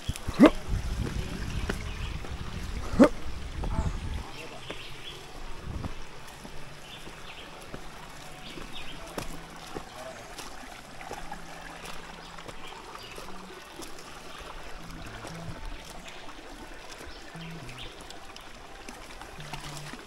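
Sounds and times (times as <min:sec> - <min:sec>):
footsteps on river stones: 0:00.0 - 0:20.0
stream running over rocks: 0:00.0 - 0:20.0.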